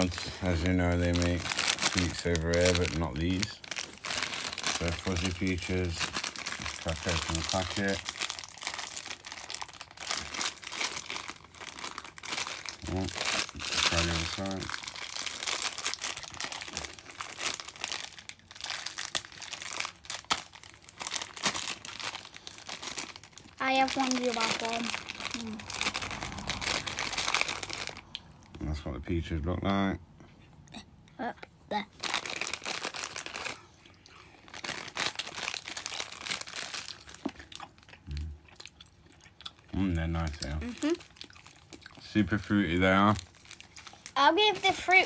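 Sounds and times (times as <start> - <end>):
plastic packet crinkling: 0.0 - 28.4, 31.9 - 33.8, 34.4 - 37.9, 39.8 - 45.0.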